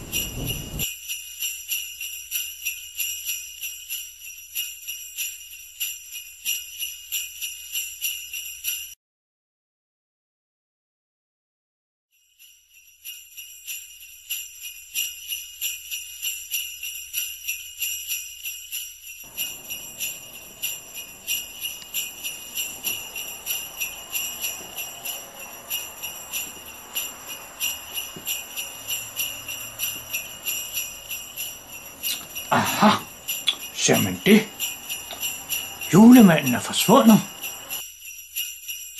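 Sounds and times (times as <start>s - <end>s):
jingle bells shaking: 0.0s - 8.9s, 12.1s - 38.9s.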